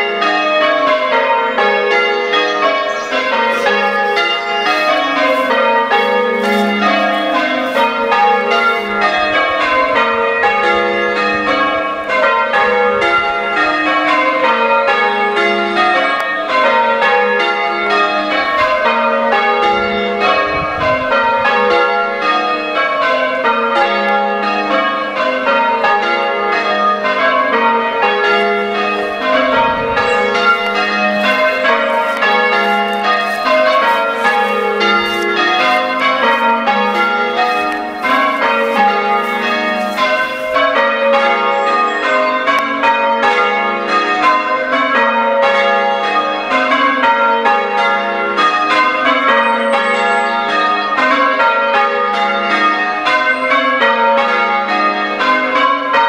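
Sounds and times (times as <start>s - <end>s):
church bells ringing changes: 0.0s - 56.0s.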